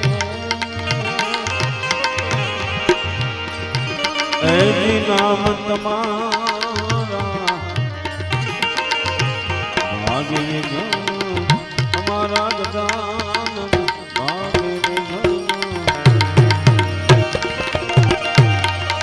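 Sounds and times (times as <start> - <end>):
harmonium melody: 0.0 - 19.0
tabla rhythm: 0.0 - 19.0.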